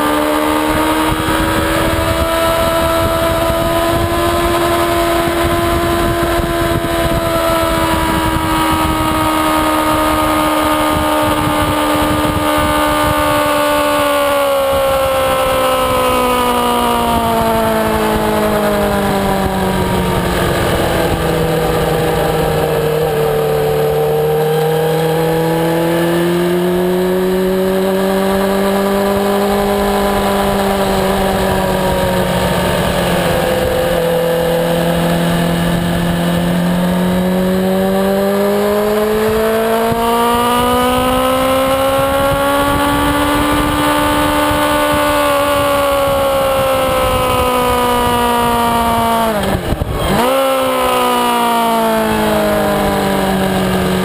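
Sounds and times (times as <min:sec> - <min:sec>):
racing motorcycle engine: 0:00.0 - 0:54.0
wind buffeting microphone: 0:00.0 - 0:54.0.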